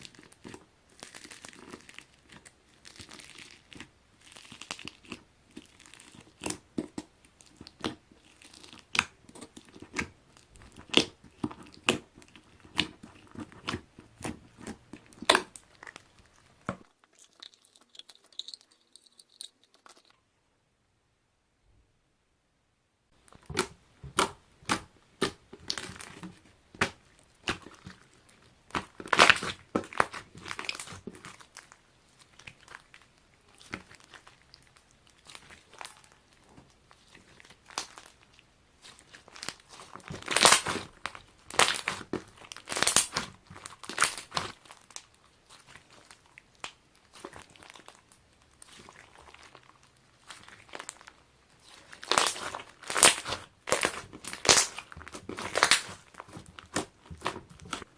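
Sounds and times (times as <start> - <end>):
foam slime crackling and popping: 0.0 - 18.5, 23.2 - 57.9.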